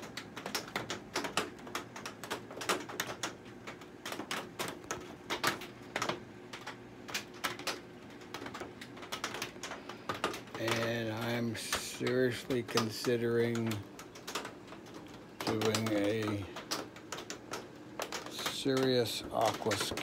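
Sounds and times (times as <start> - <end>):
rain tapping on greenhouse roof: 0.0 - 20.0.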